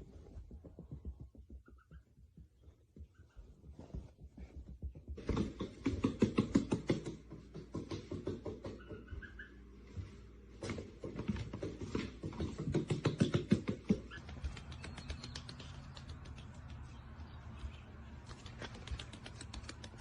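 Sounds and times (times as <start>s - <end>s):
duckling footsteps: 0.0s - 20.0s.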